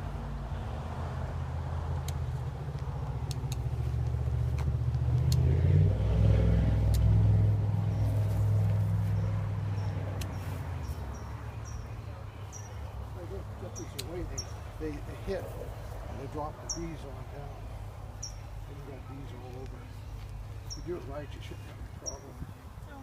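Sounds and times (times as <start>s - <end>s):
motor vehicle driving past: 0.0s - 21.8s.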